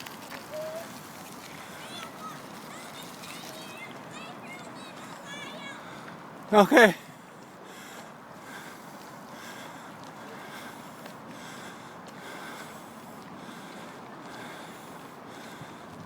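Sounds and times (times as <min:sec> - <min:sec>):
wet tyres on path: 0:00.0 - 0:16.0.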